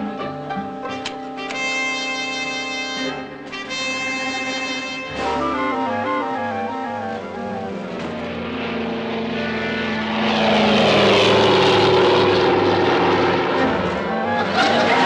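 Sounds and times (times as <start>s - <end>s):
propeller airplane flying overhead: 0.0s - 15.0s.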